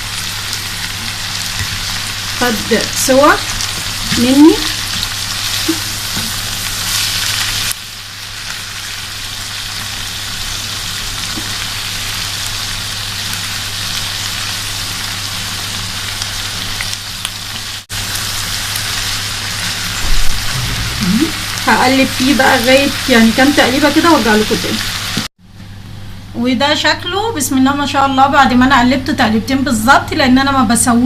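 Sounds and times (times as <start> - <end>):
food sizzling in a frying pan: 0.0 - 25.3.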